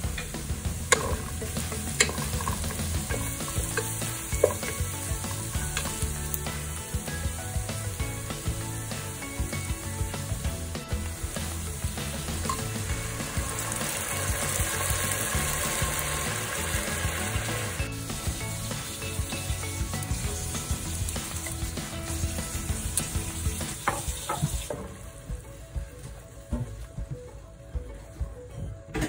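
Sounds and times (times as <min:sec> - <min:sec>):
food sizzling in a frying pan: 0:00.0 - 0:25.4.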